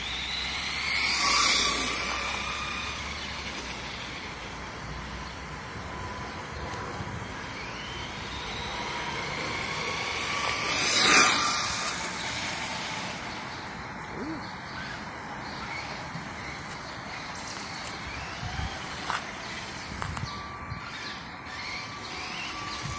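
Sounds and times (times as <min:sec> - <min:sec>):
toy truck motor whining: 0:00.0 - 0:04.8, 0:05.6 - 0:22.9.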